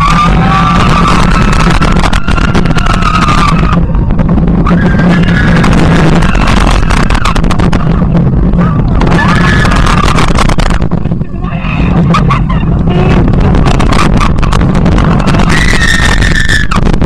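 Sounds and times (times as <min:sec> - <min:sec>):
high squeal: 0:00.0 - 0:10.4, 0:11.3 - 0:16.9
roller coaster rumbling on track: 0:00.0 - 0:17.0.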